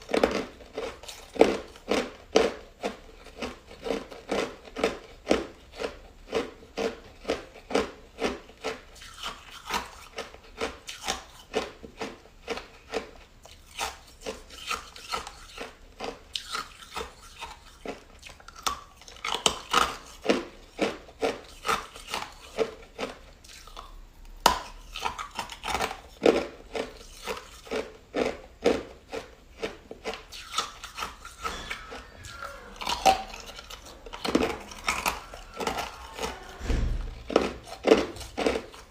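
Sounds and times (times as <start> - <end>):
person chewing ice: 0.0 - 36.6, 37.2 - 38.9.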